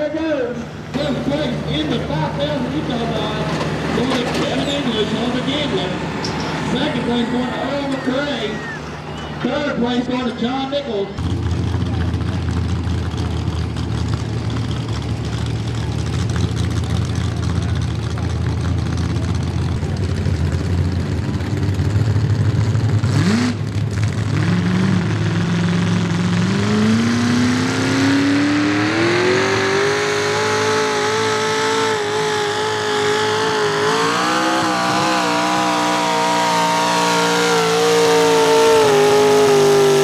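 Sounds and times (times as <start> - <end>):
tractor engine at full throttle: 0.0 - 40.0.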